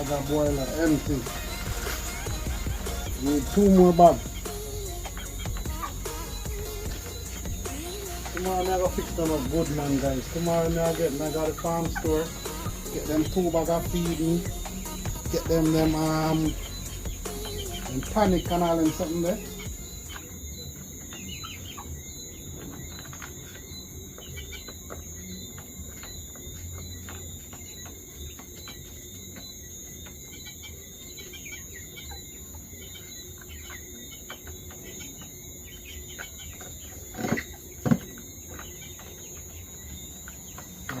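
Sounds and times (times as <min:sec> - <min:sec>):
chickens chirping and clucking: 0:00.0 - 0:41.0.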